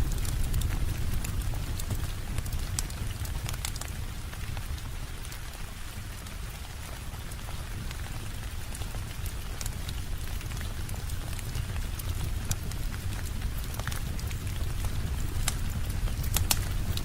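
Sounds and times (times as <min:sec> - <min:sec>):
low constant rumble: 0:00.0 - 0:17.0
rain on a window: 0:00.0 - 0:17.0.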